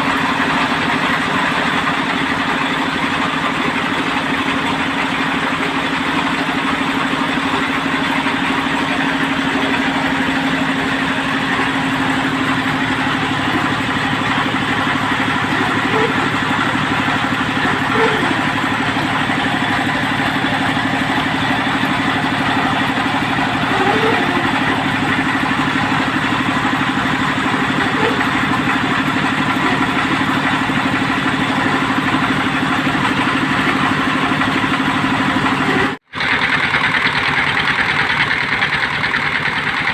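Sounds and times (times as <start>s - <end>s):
drilling machine engine running: 0.0s - 39.9s.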